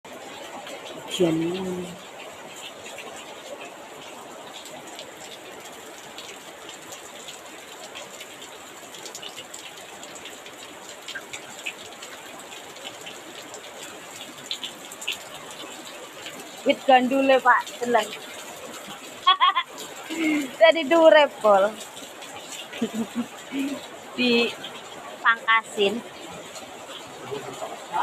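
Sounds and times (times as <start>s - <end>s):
heavy rain pouring: 0.1s - 28.0s
sharp drip ticks: 0.7s - 27.8s.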